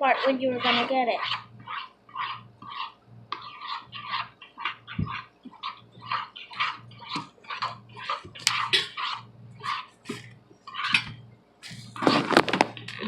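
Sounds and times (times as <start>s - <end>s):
slime squelching in a bowl: 0.0s - 13.0s.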